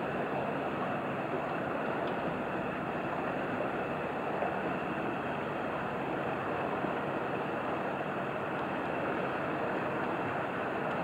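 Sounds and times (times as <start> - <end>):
boat engine: 0.0 - 11.0
water wash: 0.0 - 11.0.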